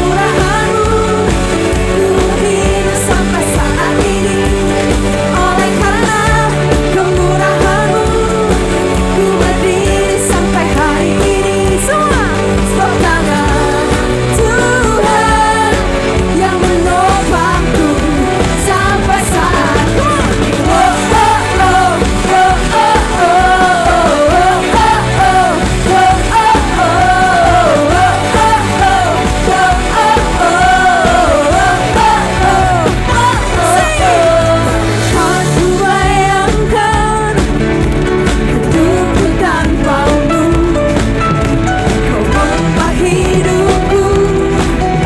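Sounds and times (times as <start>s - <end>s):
band playing upbeat song: 0.0s - 45.0s
person singing lead vocal: 0.0s - 45.0s.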